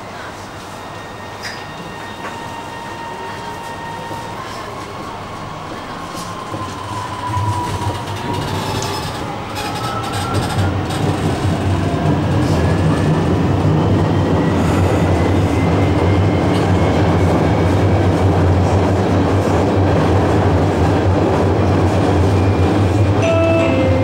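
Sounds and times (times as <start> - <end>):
wheels rumbling on rail: 1.4 - 24.0.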